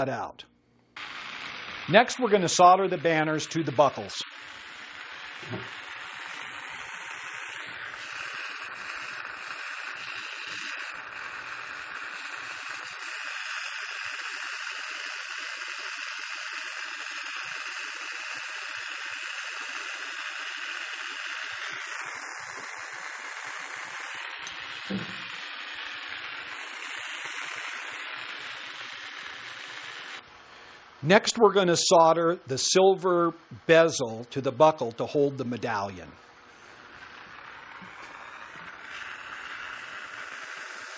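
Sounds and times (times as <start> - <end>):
torch flame hissing: 1.0 - 40.9.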